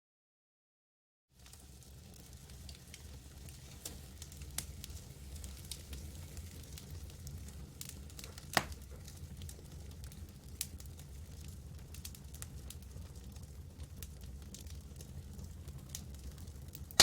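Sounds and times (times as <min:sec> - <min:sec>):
campfire crackling: 0:01.4 - 0:17.0.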